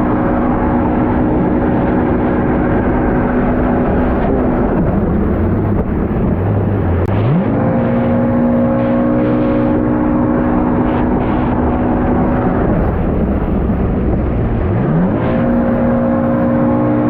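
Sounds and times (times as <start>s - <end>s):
jet ski engine revving: 0.0s - 17.0s
rushing noise: 0.0s - 17.0s.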